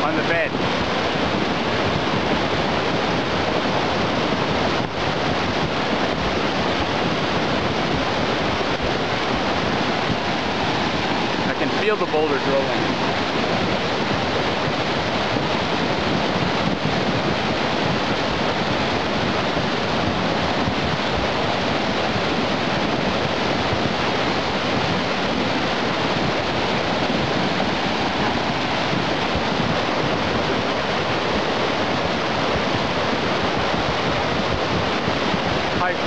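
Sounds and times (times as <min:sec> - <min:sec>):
flood water rushing: 0:00.0 - 0:36.0
boulders rolling underwater: 0:04.0 - 0:36.0.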